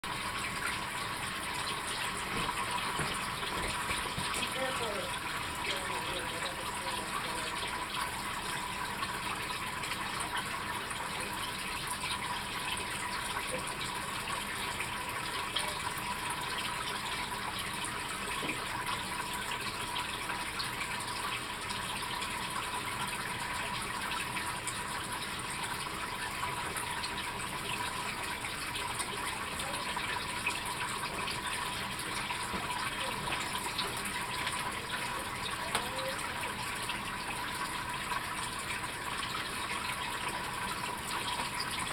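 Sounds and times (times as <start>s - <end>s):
aquarium filter water splashing: 0.0s - 41.9s.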